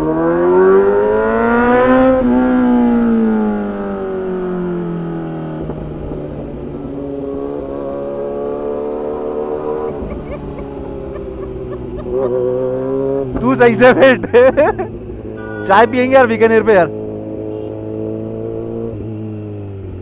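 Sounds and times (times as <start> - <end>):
motorcycle engine accelerating: 0.0 - 15.4, 16.8 - 20.0.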